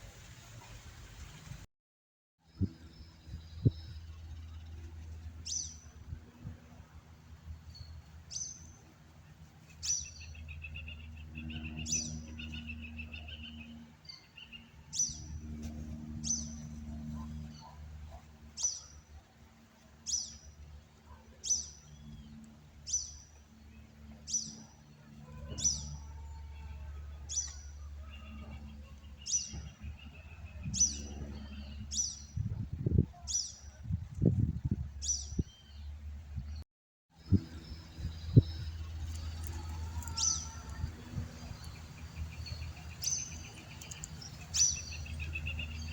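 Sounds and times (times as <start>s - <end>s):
steady low rumble: 2.5s - 36.6s, 37.2s - 45.9s.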